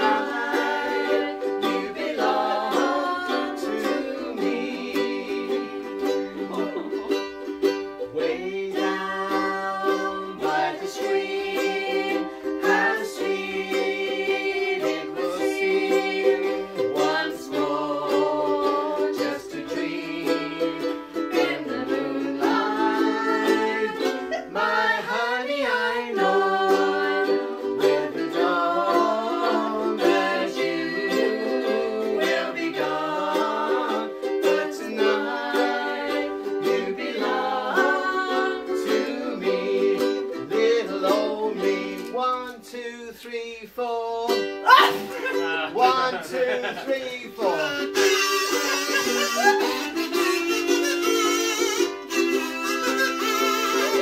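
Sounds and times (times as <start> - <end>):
people singing: 0.0 - 54.0
ukuleles strumming: 0.0 - 54.0.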